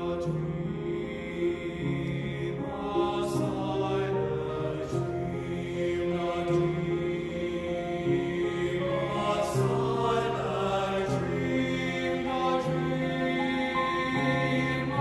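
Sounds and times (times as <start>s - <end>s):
male chorus singing chords: 0.0s - 15.0s.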